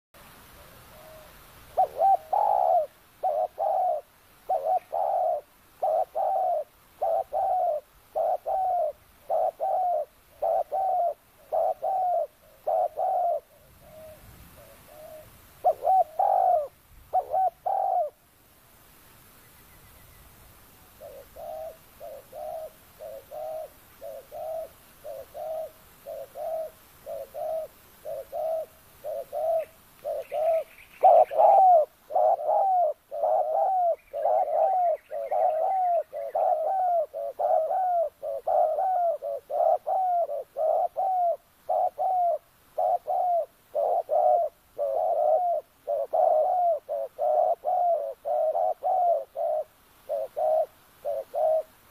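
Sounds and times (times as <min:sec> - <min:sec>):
dove cooing: 0:00.3 - 0:18.2, 0:20.8 - 0:51.9.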